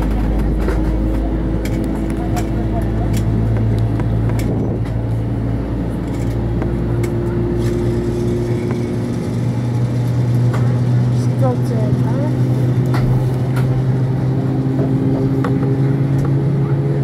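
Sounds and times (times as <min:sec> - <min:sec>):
aircraft cabin droning hum: 0:00.0 - 0:17.0.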